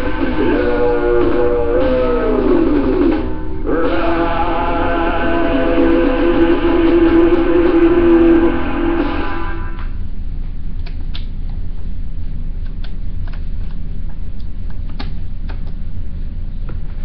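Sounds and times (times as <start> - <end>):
stylus rumble: 0.0 - 17.0.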